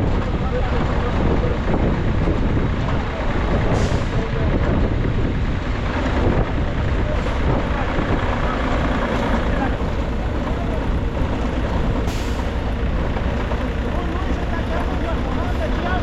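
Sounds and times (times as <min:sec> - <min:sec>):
large engine running: 0:00.0 - 0:16.0.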